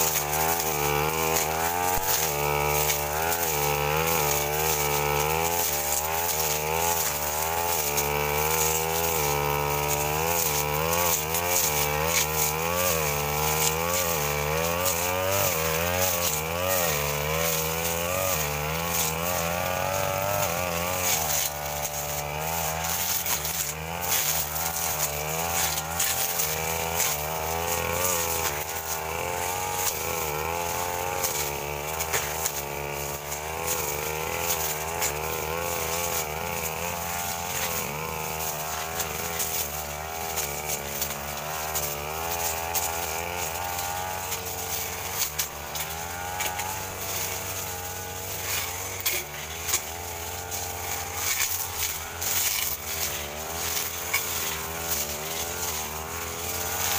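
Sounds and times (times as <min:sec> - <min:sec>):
blade cutting through brush: 0:00.0 - 0:56.9
brush cutter engine running hard: 0:00.0 - 0:56.9.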